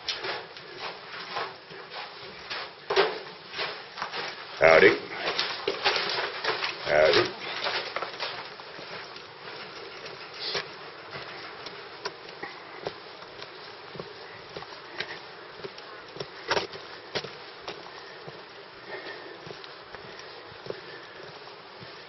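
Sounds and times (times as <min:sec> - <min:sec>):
footsteps on bridge deck: 0:00.0 - 0:22.0.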